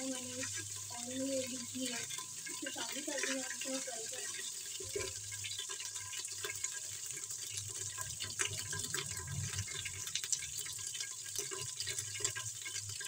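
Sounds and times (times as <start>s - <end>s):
small crackles and pops: 0.0s - 13.0s
spices sizzling in hot oil: 0.0s - 13.0s.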